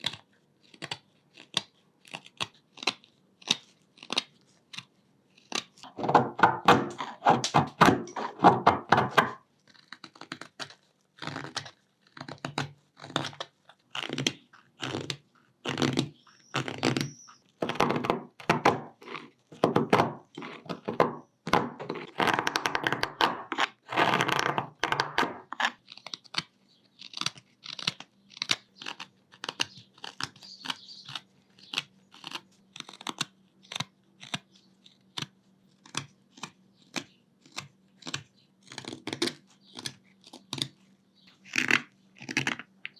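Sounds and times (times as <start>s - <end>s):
carving tool cutting wood: 0.0s - 40.8s.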